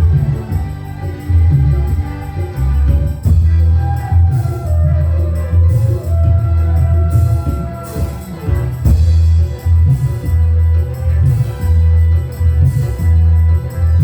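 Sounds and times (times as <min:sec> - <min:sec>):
drums: 0:00.0 - 0:14.0
heavy bass line: 0:00.0 - 0:14.0
live band playing instrumental: 0:00.0 - 0:14.0.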